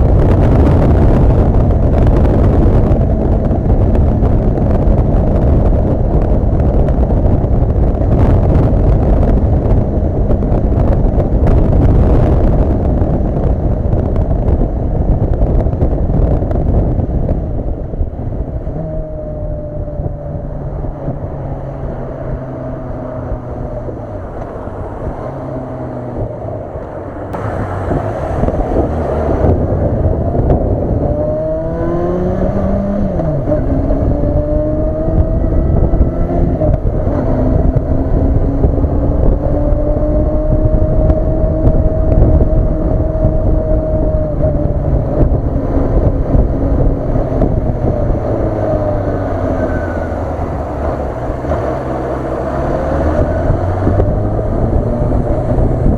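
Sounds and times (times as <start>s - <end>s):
motorcycle engine accelerating: 0.0s - 55.9s
wind rushing over camera: 0.0s - 55.9s.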